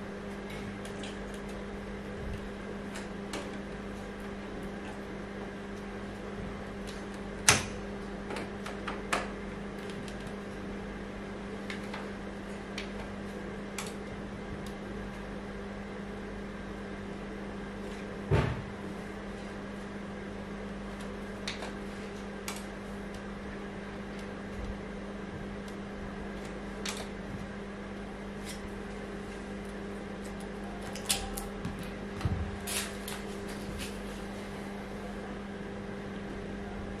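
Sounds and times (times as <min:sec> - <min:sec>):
computer hum and fan whir: 0:00.0 - 0:37.0.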